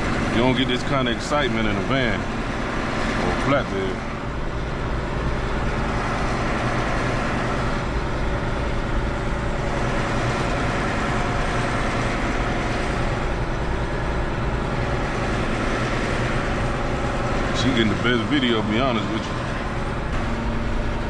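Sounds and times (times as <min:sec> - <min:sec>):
diesel truck engine rumbling: 0:00.0 - 0:21.0.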